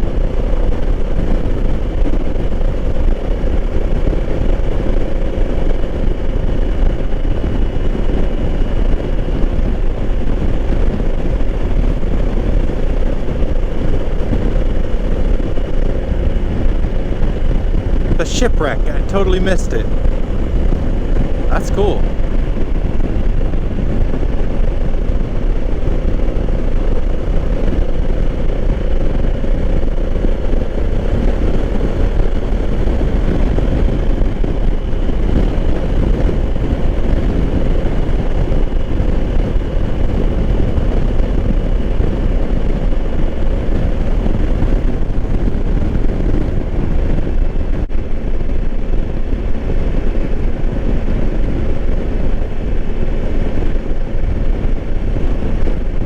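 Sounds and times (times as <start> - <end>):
wind rush over microphone: 0.0 - 18.2, 19.8 - 56.0.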